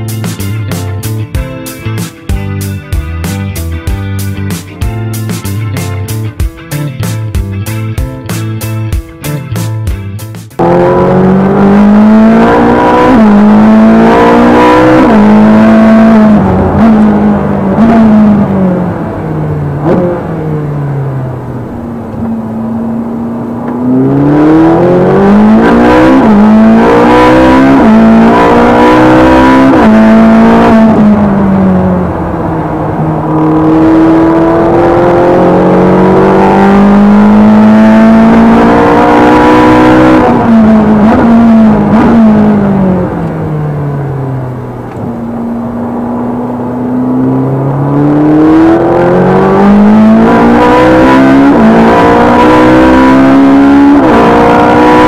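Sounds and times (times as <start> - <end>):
sports car engine revving: 10.6 - 55.0.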